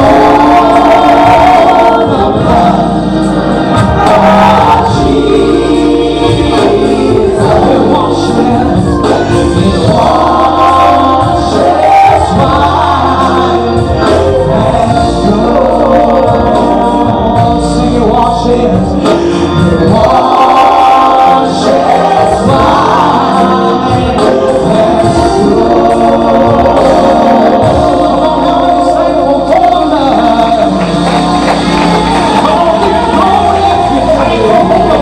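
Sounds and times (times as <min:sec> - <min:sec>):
gospel choir singing: 0:00.0 - 0:35.0.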